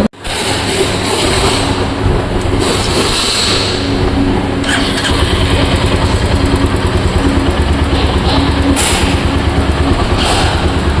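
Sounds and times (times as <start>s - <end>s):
motorcycle engine idling: 1.0s - 11.0s.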